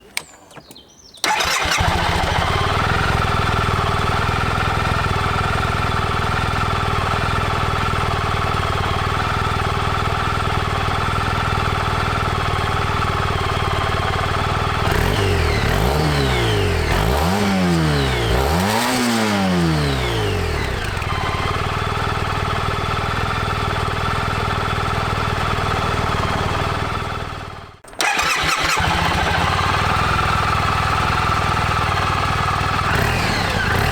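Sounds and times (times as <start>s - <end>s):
scooter engine starting and idling: 0.0s - 33.9s
scooter engine revving: 1.2s - 33.9s.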